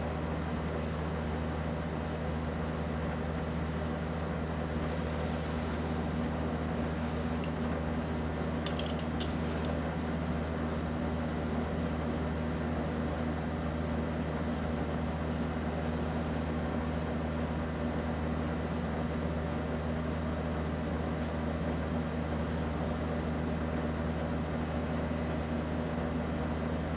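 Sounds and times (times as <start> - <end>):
ceiling fan running: 0.0 - 26.9.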